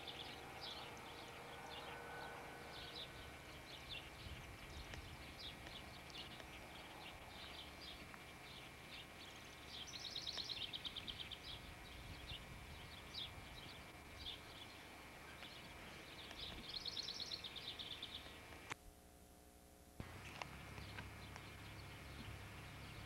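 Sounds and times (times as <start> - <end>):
songbird trilling and chirping: 0.0 - 18.5.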